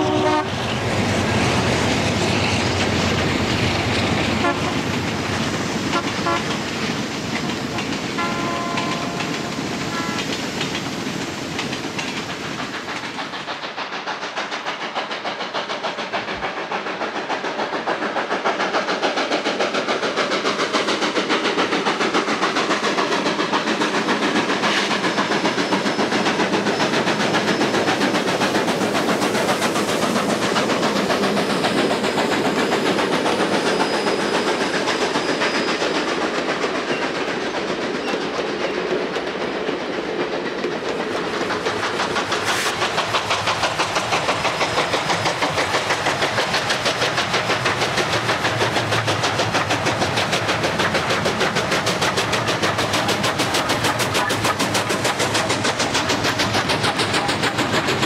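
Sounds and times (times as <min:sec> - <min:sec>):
steam locomotive exhaust beating: 0:00.0 - 0:58.0
wheels clicking over rail joints: 0:00.2 - 0:58.0.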